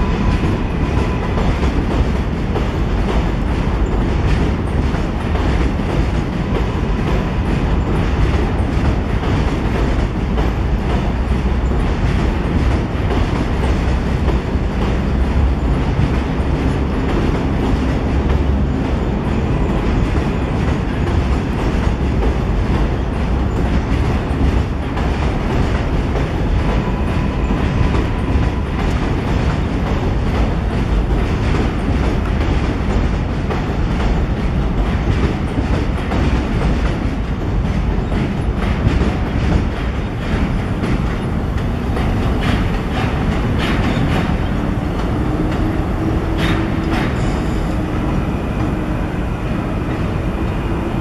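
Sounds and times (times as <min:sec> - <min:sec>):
train rumbling on steel structure: 0:00.0 - 0:51.0
wheels clacking over rails: 0:00.0 - 0:51.0.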